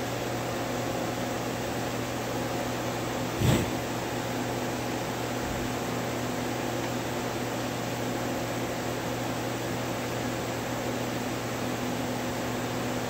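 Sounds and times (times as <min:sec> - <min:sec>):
fan-like hiss: 0:00.0 - 0:13.0.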